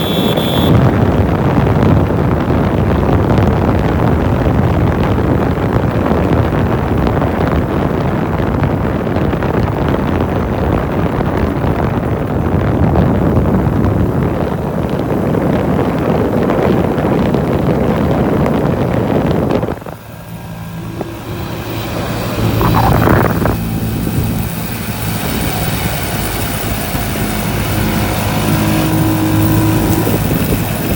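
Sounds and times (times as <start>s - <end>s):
motorcycle engine hum: 0.0s - 30.9s
rushing wind and road noise: 0.0s - 30.9s.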